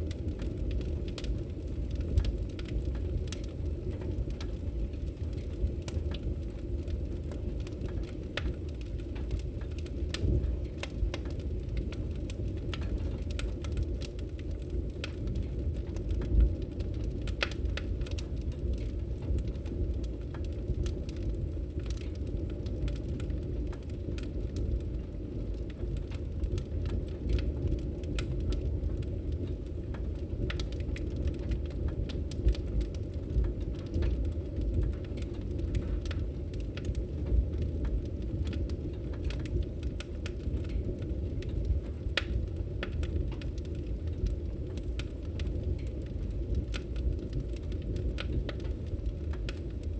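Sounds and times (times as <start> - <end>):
fire crackling and popping: 0.0 - 49.9
low rumble of flames: 0.0 - 49.9.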